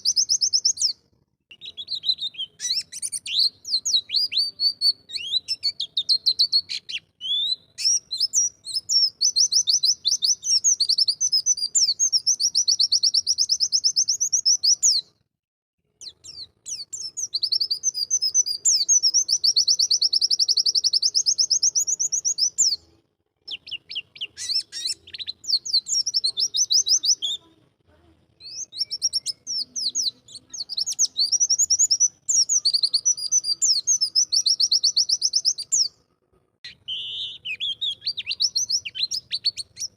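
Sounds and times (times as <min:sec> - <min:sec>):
bird singing high warbling phrases: 0:00.0 - 0:15.1, 0:16.0 - 0:27.6, 0:28.4 - 0:36.0, 0:36.6 - 0:39.9.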